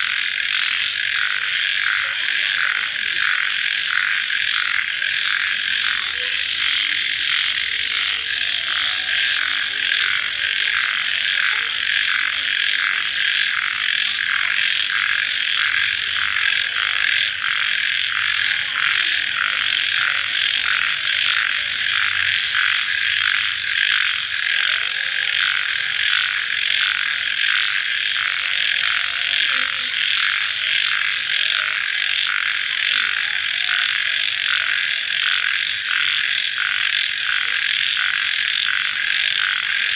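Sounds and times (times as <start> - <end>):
pulsing animal trill chorus: 0.0 - 39.9.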